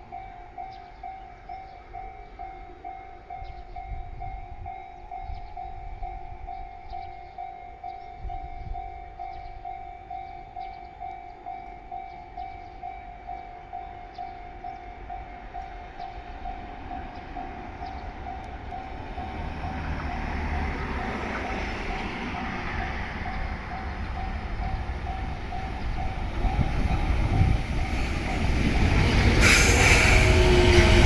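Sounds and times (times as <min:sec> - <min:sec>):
level crossing warning bell: 0:00.0 - 0:29.1
electric train rumbling: 0:00.0 - 0:31.0.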